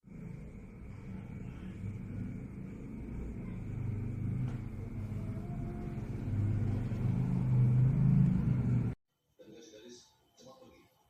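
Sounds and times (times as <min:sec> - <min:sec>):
gas water heater rumbling: 0:00.0 - 0:09.0.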